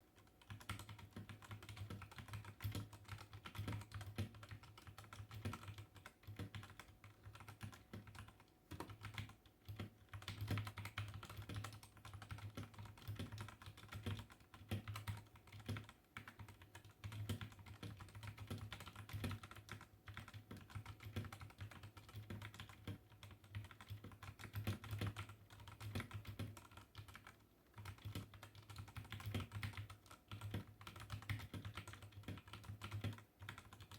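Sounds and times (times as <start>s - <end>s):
typing on mechanical keyboard: 0.2s - 33.9s.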